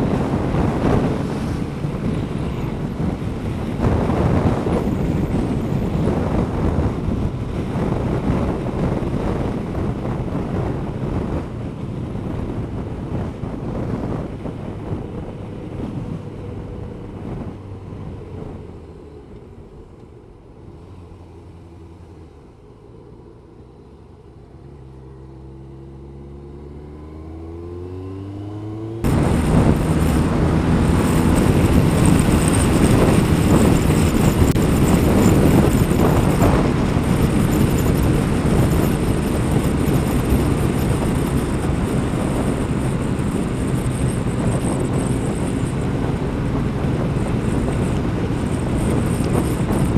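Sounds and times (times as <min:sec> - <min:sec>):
motorcycle engine accelerating: 0:00.0 - 0:49.9
wind rush: 0:00.0 - 0:49.9.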